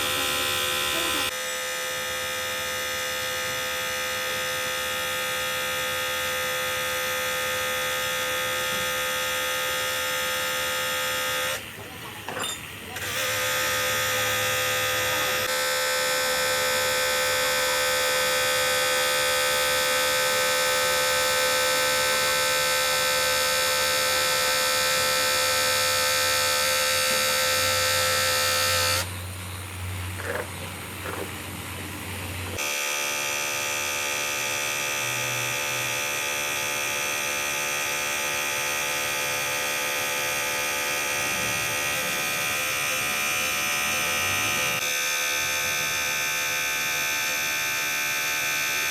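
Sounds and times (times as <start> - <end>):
machine buzzing whine: 0.0 - 48.9.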